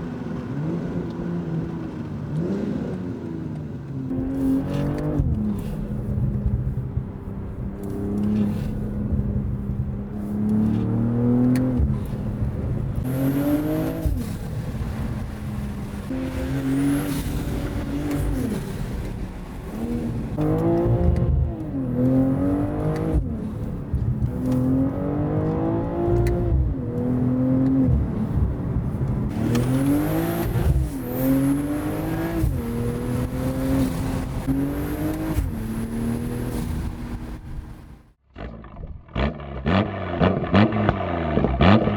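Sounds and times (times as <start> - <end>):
car engine revving in cabin: 0.3 - 41.9.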